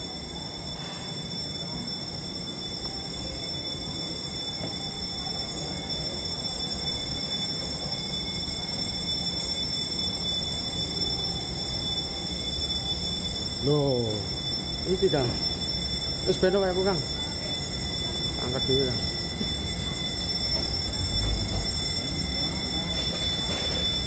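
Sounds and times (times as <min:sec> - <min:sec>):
high-pitched machine whine: 0:00.0 - 0:24.0.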